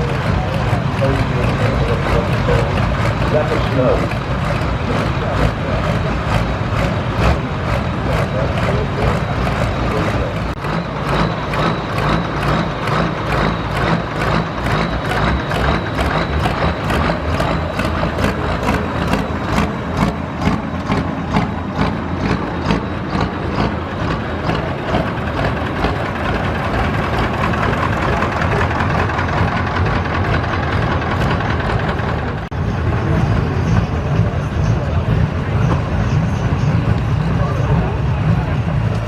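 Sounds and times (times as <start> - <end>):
diesel engine running loud: 0.0 - 39.0.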